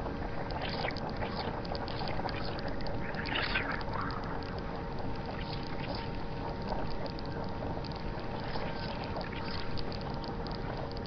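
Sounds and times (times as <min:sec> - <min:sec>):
faint steady tones: 0:00.0 - 0:11.0
small crackling ticks: 0:00.0 - 0:11.0.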